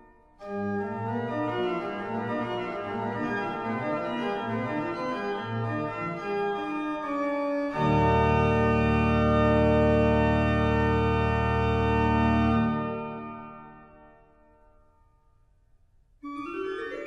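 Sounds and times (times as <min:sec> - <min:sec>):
pipe organ playing: 0:00.4 - 0:14.2, 0:16.2 - 0:17.0.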